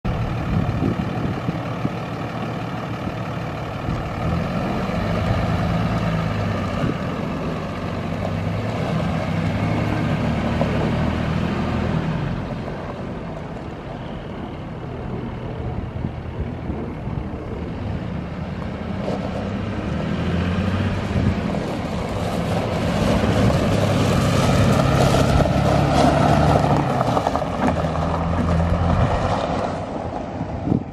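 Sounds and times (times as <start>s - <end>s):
diesel engine idling: 0.0s - 29.1s.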